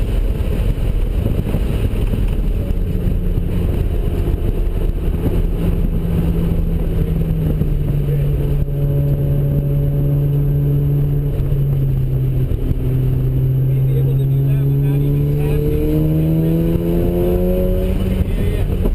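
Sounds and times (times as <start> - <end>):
road and wind rumble: 0.0 - 18.9
rotary engine running hard: 0.0 - 18.9.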